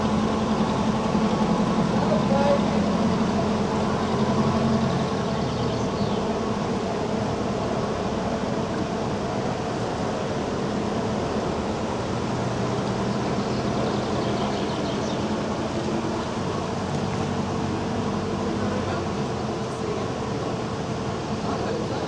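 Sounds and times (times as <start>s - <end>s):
boat engines humming: 0.0s - 22.0s.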